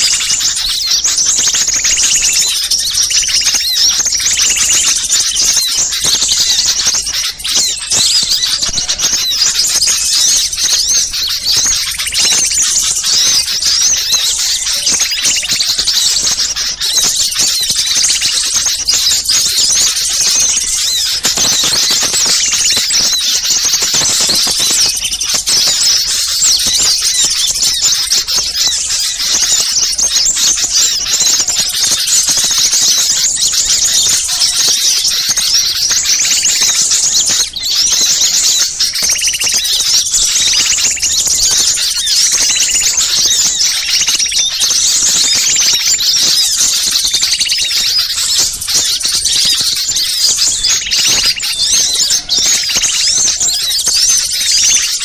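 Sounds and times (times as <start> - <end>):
small songbirds chattering: 0.0 - 55.0.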